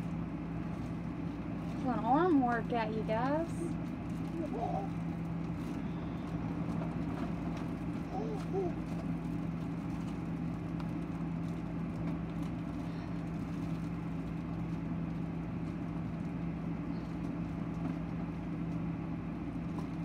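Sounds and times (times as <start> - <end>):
machine droning hum: 0.0 - 20.0.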